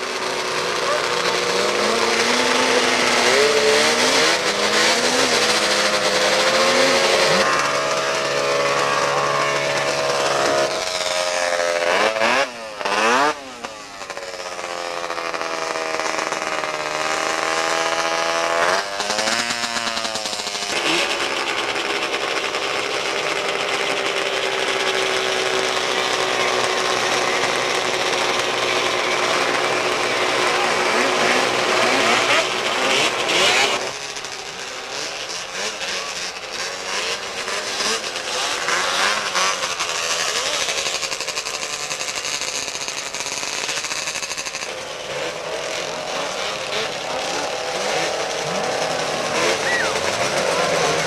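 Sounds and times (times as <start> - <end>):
snowmobile engines revving: 0.0 - 51.0.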